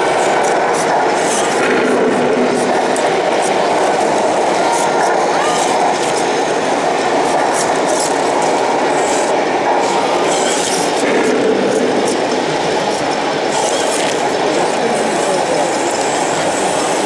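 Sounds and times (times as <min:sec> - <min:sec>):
toy tanks clattering and whirring: 0:00.0 - 0:17.0.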